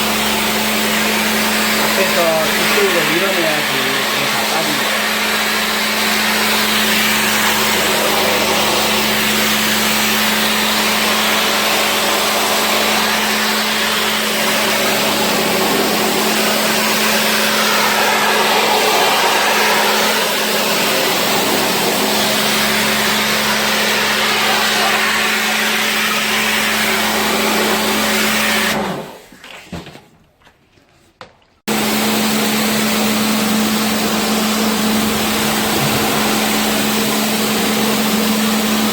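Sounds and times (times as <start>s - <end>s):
cleaning machine hiss and hum: 0.0s - 29.2s, 31.7s - 38.9s.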